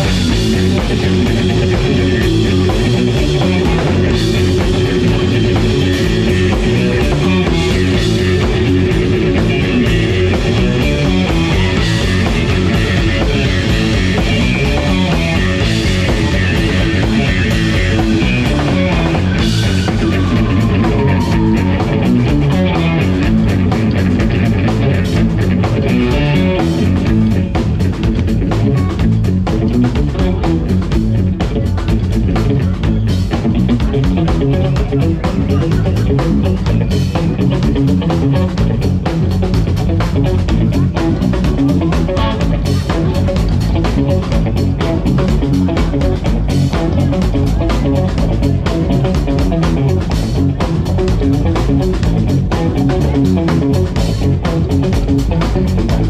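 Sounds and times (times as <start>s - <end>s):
electric guitars: 0.0s - 56.0s
live band playing: 0.0s - 56.0s.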